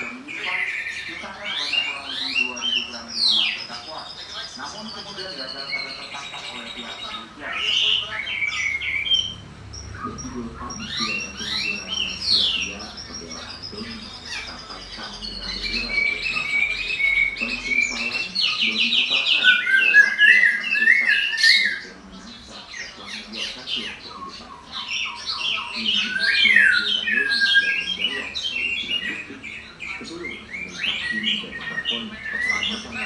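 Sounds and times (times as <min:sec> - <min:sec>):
bird singing whistled trills: 0:00.0 - 0:33.0.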